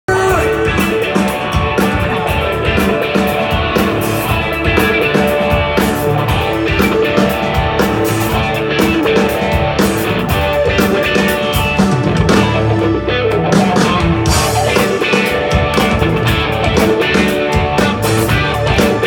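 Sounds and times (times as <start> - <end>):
drum kit beat: 0.1 - 19.0
electric guitar: 0.1 - 19.0.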